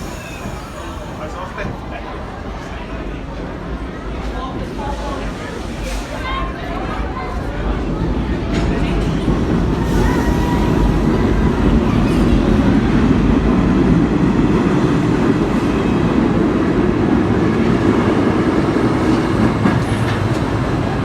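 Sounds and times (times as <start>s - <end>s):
subway car rumbling on track: 0.0s - 21.0s.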